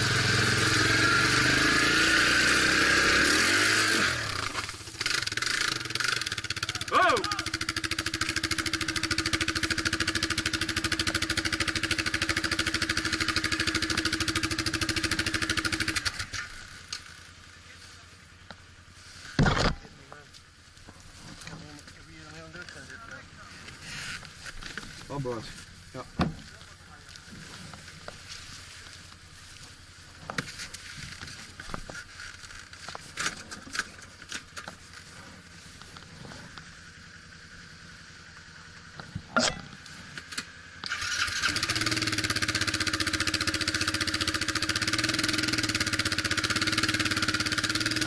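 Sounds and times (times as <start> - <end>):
vehicle engine idling: 4.2 - 48.0.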